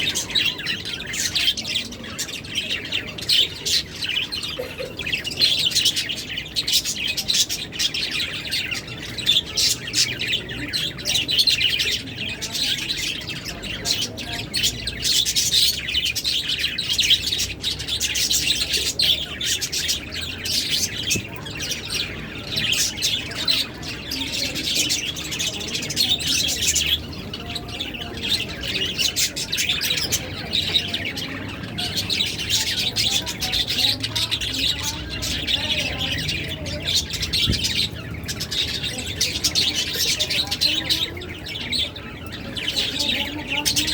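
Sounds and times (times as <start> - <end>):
lovebirds chirping: 0.0 - 43.9.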